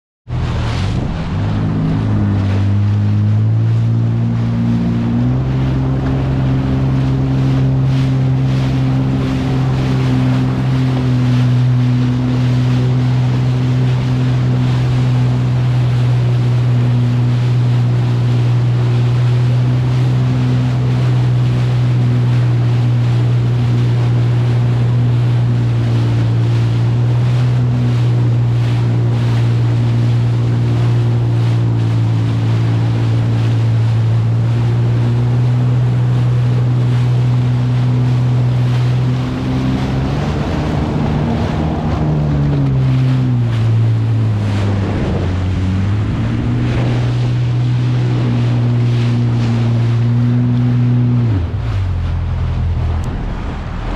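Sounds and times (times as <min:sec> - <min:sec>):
personal watercraft engine running: 0:00.2 - 0:53.9
rushing water spray: 0:00.3 - 0:53.9
wind on microphone: 0:00.3 - 0:53.9.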